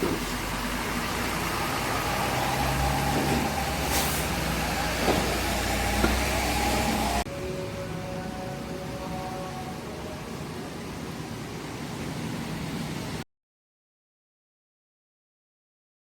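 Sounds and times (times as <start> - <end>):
bus engine running: 0.0 - 13.2.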